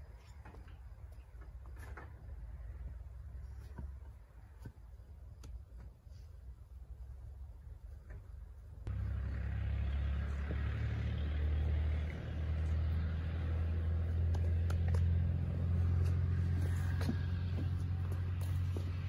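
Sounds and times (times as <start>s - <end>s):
engine rumbling steadily: 0.0s - 19.0s.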